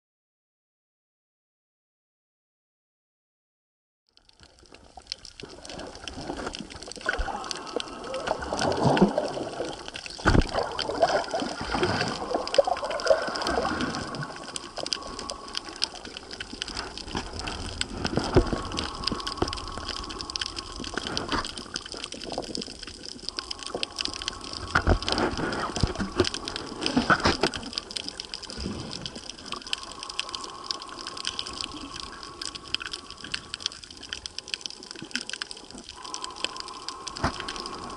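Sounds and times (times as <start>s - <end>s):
underwater rushing and bubbling: 4.2s - 37.9s.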